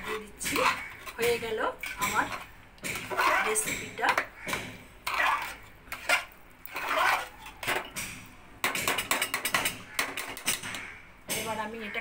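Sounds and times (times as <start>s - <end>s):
metal spoon scraping pot: 0.0s - 12.0s.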